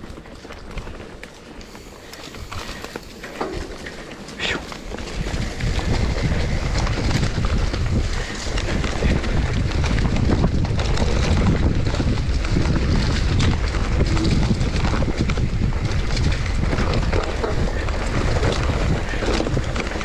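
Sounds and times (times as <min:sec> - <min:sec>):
bike clicks and rattles: 0:00.0 - 0:20.0
tyres running over dirt: 0:00.0 - 0:20.0
wind buffeting microphone: 0:00.0 - 0:20.0.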